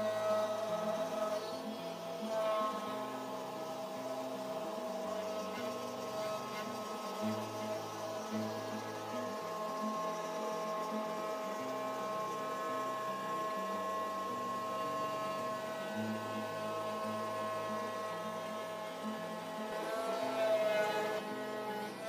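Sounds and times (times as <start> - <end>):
router spindle high whine: 0.0 - 22.0
stepper motors whining: 0.0 - 22.0.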